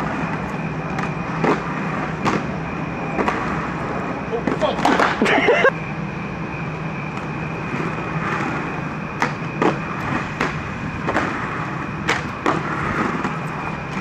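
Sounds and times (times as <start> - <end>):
hum with high whine: 0.0 - 14.0
skate wheels rolling on pavement: 0.0 - 14.0.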